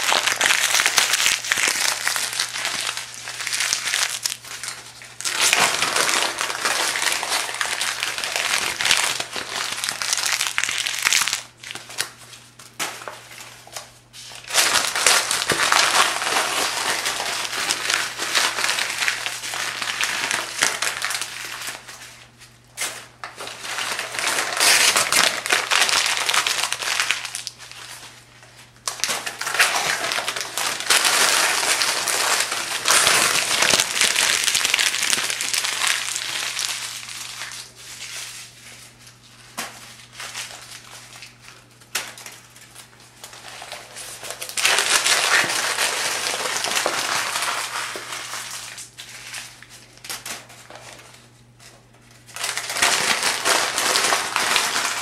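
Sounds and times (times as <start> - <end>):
paper pages crumpling: 0.0 - 55.0.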